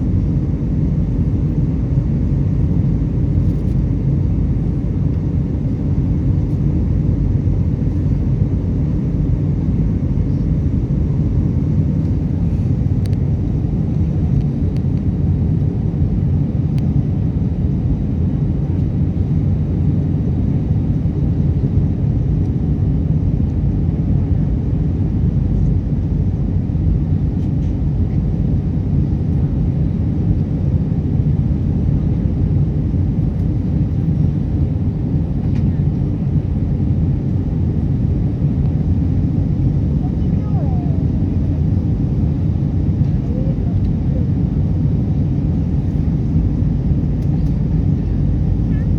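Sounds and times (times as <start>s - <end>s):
airliner engine rumble and rushing air: 0.0s - 48.9s.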